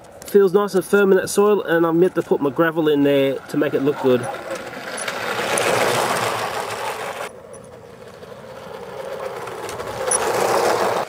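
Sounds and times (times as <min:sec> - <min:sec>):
model locomotive motor whirring: 0:01.8 - 0:11.0.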